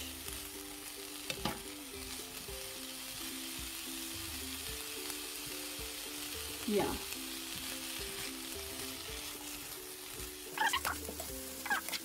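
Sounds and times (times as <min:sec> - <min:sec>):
soft background music: 0:00.0 - 0:12.0
vegetables sizzling in a frying pan: 0:00.0 - 0:12.0.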